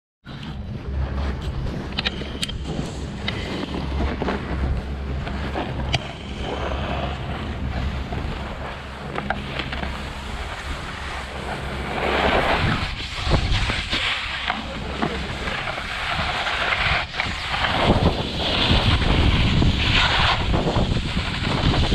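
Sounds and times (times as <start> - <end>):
wind buffeting microphone: 0.2 - 21.9
skis scraping over snow: 0.3 - 21.9.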